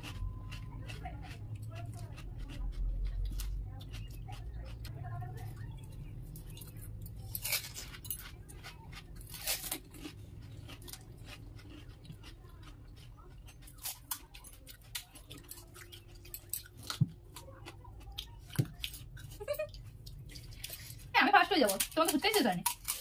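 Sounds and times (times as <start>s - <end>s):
crisp puris cracking and crunching: 0.0s - 23.0s.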